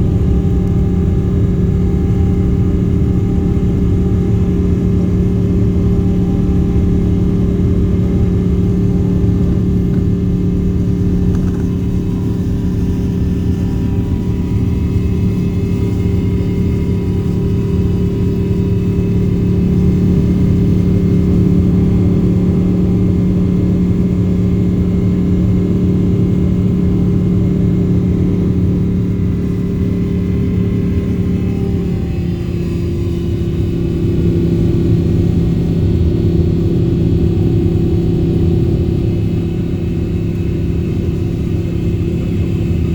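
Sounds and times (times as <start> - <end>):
constant hum: 0.0 - 42.9
jet engines droning in cabin: 0.0 - 42.9.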